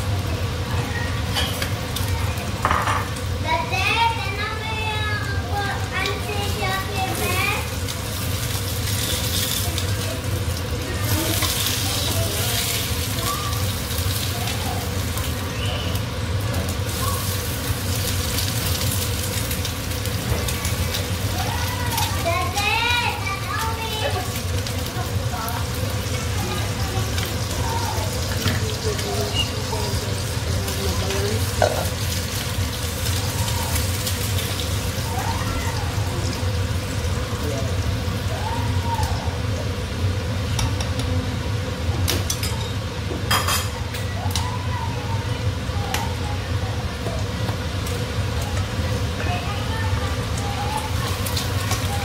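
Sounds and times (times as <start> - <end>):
eggs sizzling in oil: 0.0 - 52.0.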